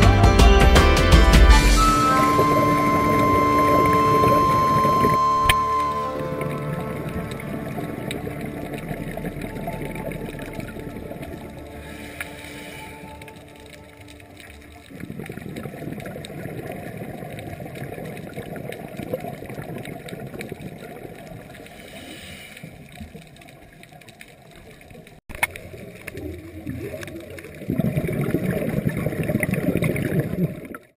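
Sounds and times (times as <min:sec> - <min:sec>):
diver's bubbles gurgling underwater: 0:01.8 - 0:21.8, 0:22.7 - 0:30.9.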